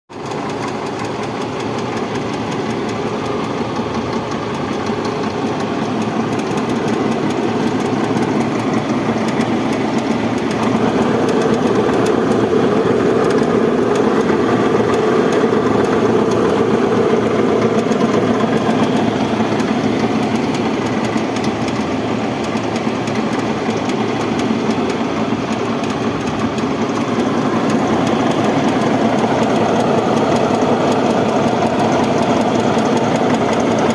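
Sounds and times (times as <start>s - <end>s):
minibus engine running: 0.1s - 33.9s
radiator fan abnormal noise: 0.4s - 33.9s.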